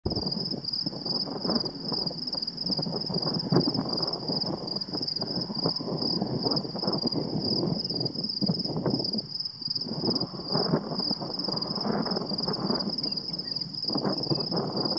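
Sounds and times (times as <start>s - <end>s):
wind buffeting microphone: 0.0s - 14.9s
wind gusting through grass: 0.0s - 14.9s.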